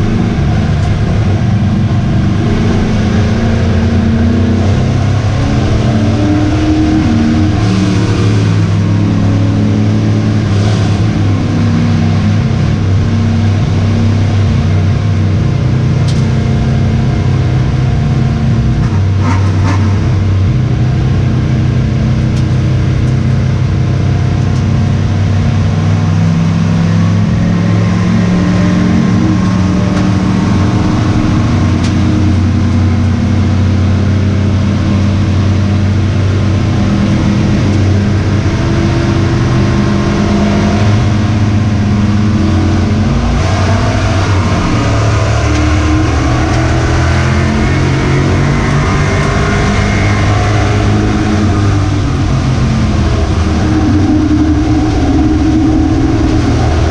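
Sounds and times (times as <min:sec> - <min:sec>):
racing engine running hard: 0:00.0 - 0:56.9.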